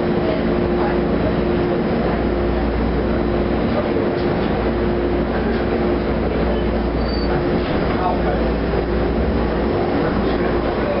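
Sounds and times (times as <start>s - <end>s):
steady hum: 0.0s - 11.0s
subway wheels rumbling in tunnel: 0.0s - 11.0s.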